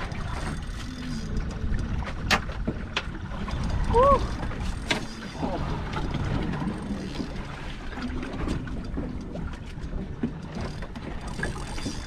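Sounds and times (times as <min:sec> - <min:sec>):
water lapping against boat hull: 0:00.0 - 0:12.0
wind rumble on microphone: 0:00.0 - 0:12.0.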